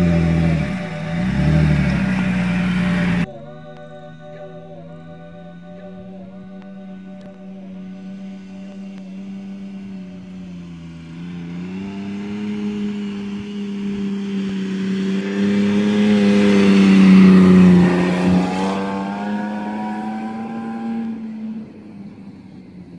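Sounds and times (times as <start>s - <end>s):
car engine and tyres passing: 0.0s - 22.9s.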